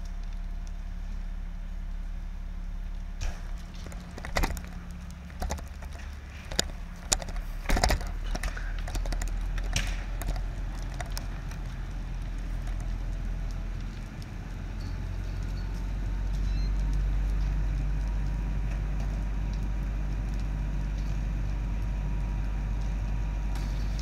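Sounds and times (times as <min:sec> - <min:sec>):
fire popping and cracking: 0:00.0 - 0:24.0
low rumble: 0:00.0 - 0:24.0.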